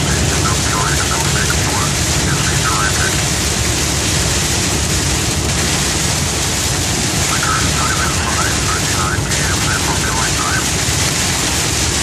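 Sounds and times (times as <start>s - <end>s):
heavy rain beating on vehicle: 0.0s - 12.0s.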